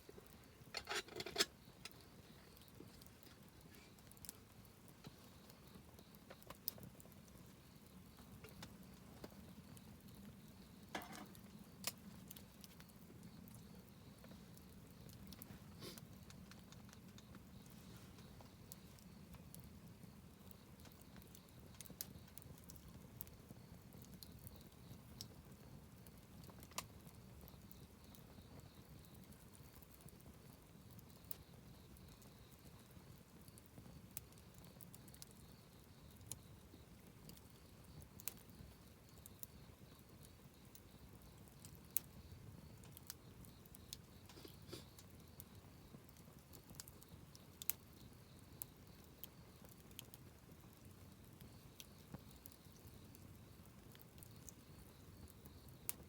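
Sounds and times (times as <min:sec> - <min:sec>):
wood campfire crackling: 0:00.0 - 0:56.0.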